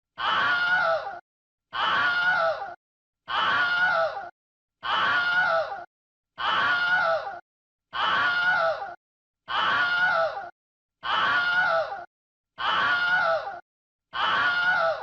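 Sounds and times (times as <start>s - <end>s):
high strained human scream: 0.1s - 15.0s.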